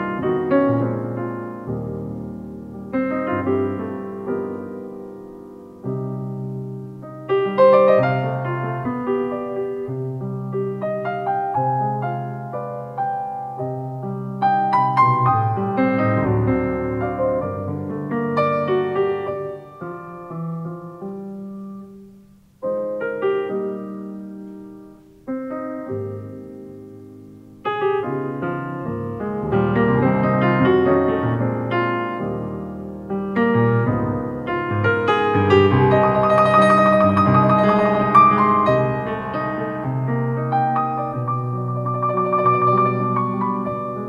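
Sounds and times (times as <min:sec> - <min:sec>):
solo piano chords: 0:00.0 - 0:44.0.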